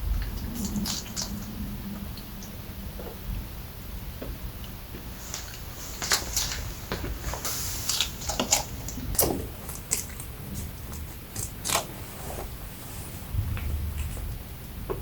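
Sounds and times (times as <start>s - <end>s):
rabbit chewing crunchy fruit: 0.0s - 3.4s, 4.4s - 14.4s.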